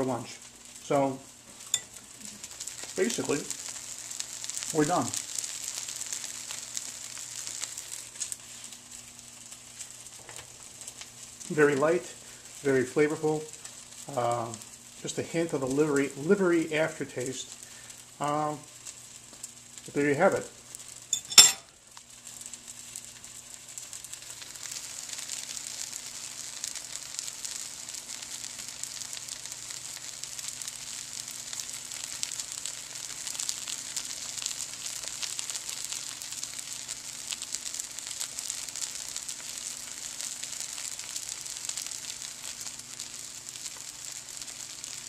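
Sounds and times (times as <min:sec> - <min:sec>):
food sizzling in oil: 0:00.0 - 0:45.0.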